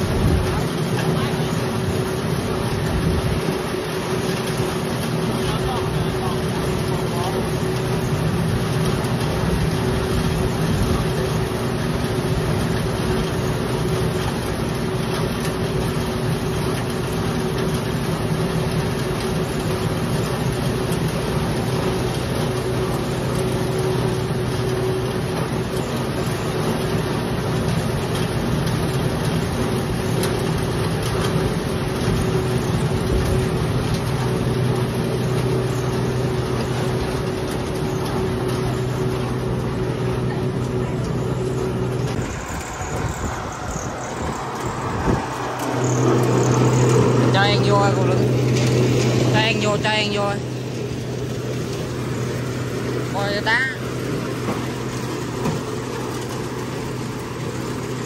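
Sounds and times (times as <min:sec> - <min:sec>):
threshing machine humming: 0:00.0 - 0:58.0.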